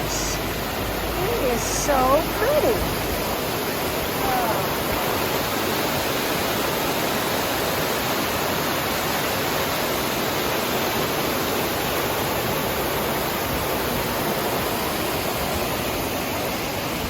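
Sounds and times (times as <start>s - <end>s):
creek rushing: 0.0s - 17.0s.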